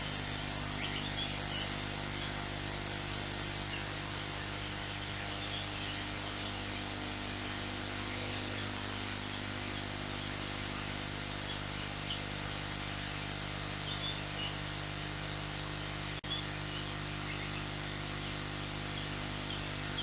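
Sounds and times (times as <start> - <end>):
constant hiss: 0.0 - 20.0
low mechanical hum: 0.0 - 20.0.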